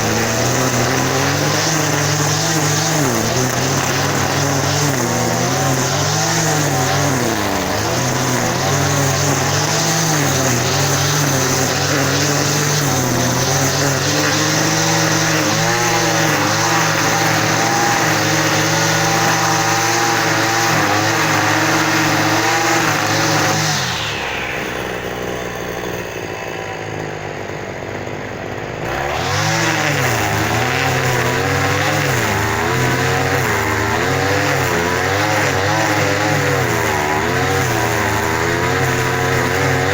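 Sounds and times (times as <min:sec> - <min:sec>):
engine running unevenly: 0:00.0 - 0:39.9.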